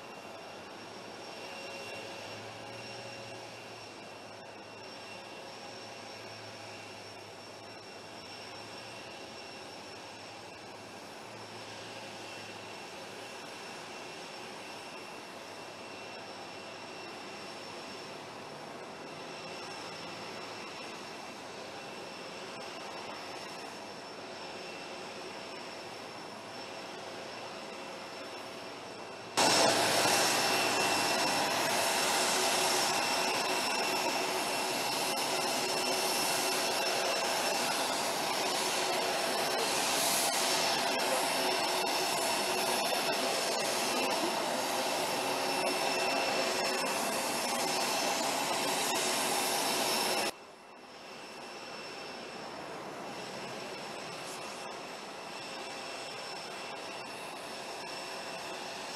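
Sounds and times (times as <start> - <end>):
jet engines whining: 0.0 - 58.9.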